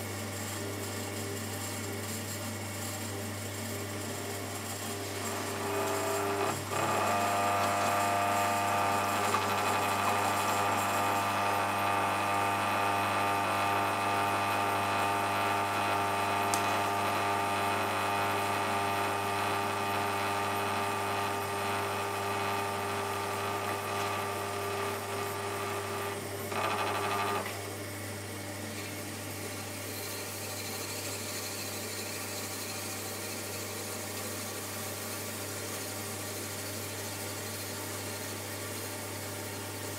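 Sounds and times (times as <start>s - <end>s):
potter's wheel motor whine: 0.0s - 39.9s.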